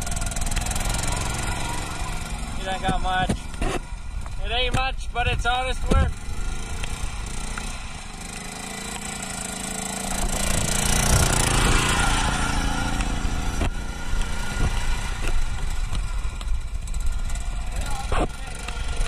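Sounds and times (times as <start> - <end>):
lawn tractor engines running: 0.0 - 19.0
tyres on gravel: 0.0 - 19.0.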